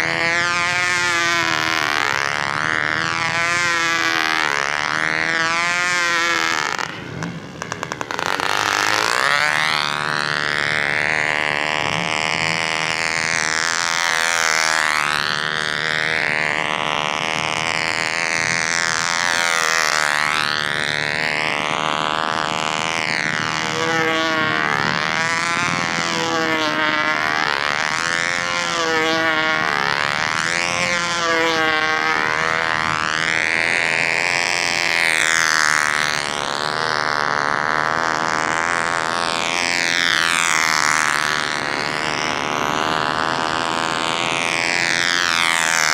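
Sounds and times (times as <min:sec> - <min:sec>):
model airplane engine: 0:00.0 - 0:45.9.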